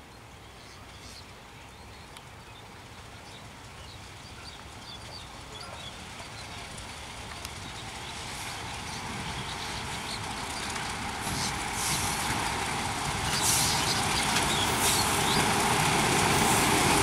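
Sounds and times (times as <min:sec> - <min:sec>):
birds chirping: 0:00.1 - 0:15.9
diesel locomotive rumble: 0:00.2 - 0:17.0.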